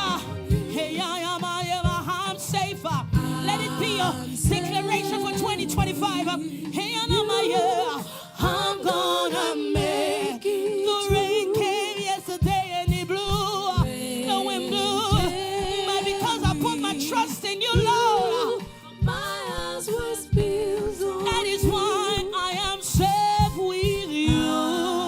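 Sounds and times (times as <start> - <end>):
choir singing: 0.0 - 2.2, 3.0 - 12.6, 13.2 - 25.0
drum hits: 0.0 - 10.3, 12.4 - 25.0
band playing: 0.0 - 10.4, 12.4 - 25.0.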